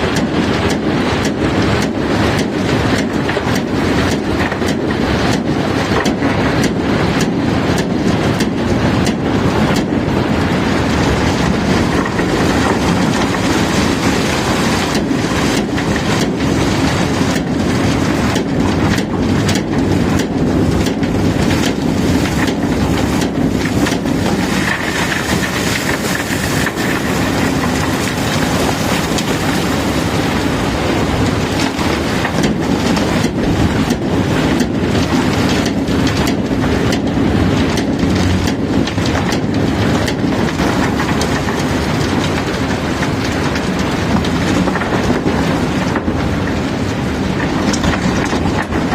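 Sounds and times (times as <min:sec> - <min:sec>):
cobblestones rattling and knocking: 0:00.0 - 0:48.9
machinery rumble: 0:00.0 - 0:48.9.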